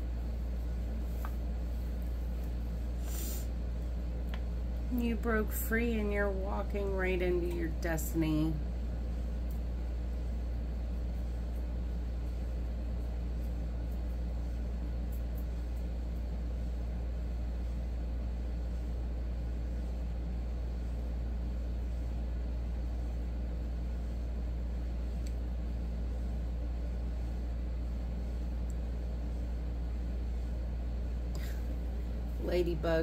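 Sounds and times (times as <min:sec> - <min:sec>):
low background rumble: 0:00.0 - 0:33.0.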